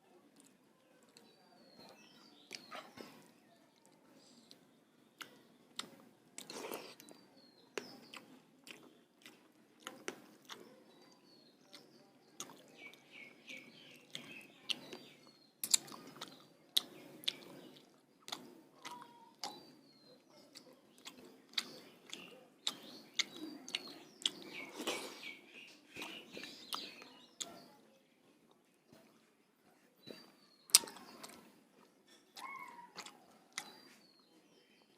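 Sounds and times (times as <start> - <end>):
small birds chirping: 0.0 - 34.9
person chewing food: 0.2 - 34.9.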